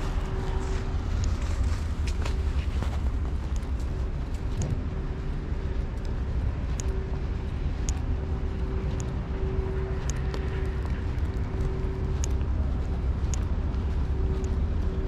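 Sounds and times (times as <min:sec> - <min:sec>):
low engine rumble: 0:00.0 - 0:15.0
light ticks: 0:00.1 - 0:15.0.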